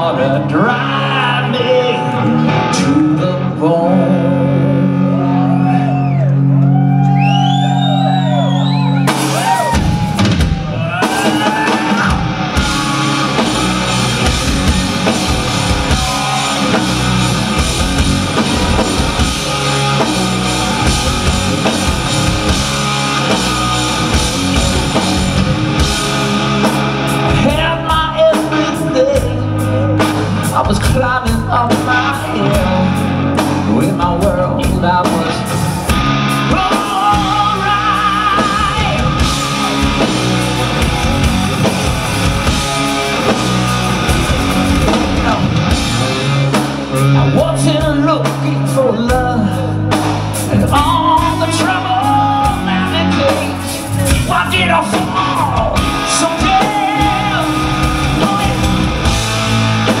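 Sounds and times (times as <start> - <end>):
man singing lead vocals: 0.0 - 6.2, 10.8 - 25.2, 25.8 - 40.0, 44.0 - 60.0
bass guitar: 0.0 - 60.0
drums: 0.0 - 60.0
electric guitar: 0.0 - 60.0.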